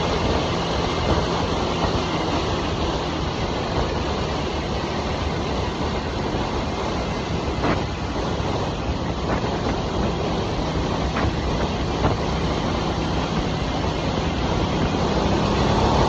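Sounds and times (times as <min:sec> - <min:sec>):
motorcycle engine cruising: 0:00.0 - 0:16.0
wind rushing over microphone: 0:00.0 - 0:16.0.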